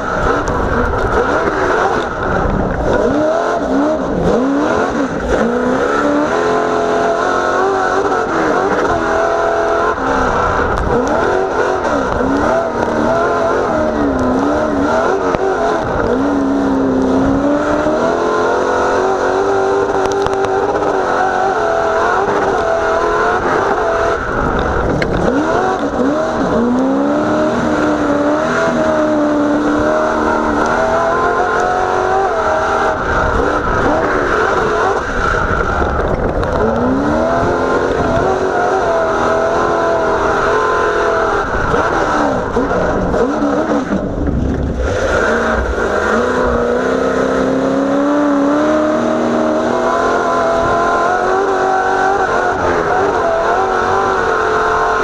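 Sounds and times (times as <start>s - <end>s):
race truck engine revving: 0.0s - 55.0s.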